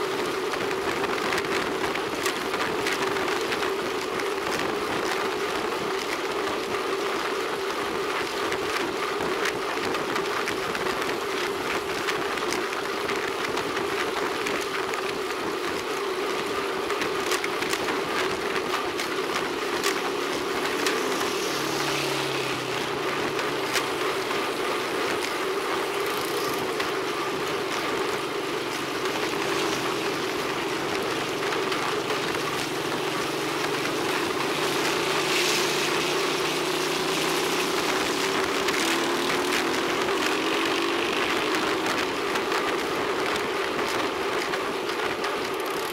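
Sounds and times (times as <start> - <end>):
bicycle tyre and wind noise: 0.0 - 45.9.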